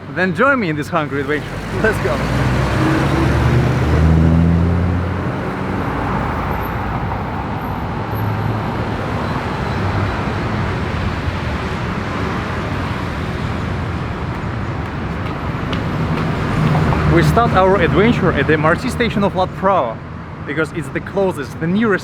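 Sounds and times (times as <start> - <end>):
passing vehicles rushing: 0.0 - 22.0.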